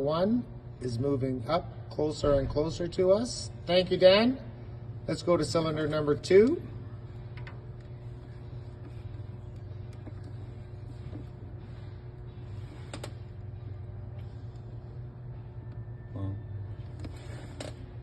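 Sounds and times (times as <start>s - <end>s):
low workshop hum: 0.0s - 18.0s.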